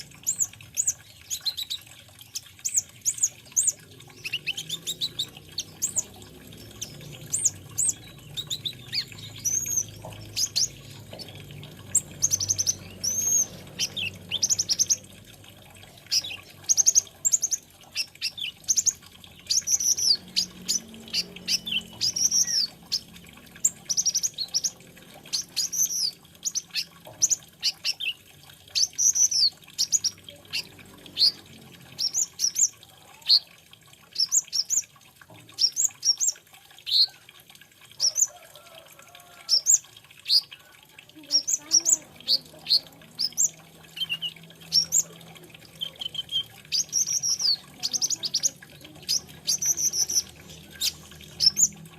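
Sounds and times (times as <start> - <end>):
sunbird twittering song: 0.0 - 15.2, 16.0 - 33.5, 41.2 - 51.8.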